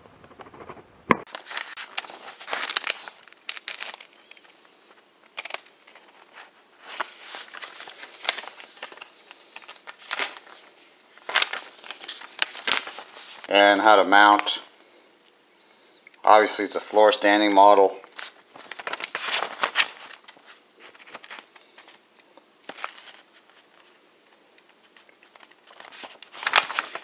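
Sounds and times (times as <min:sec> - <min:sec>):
paper pages rustling: 0:01.3 - 0:14.6, 0:18.0 - 0:27.0.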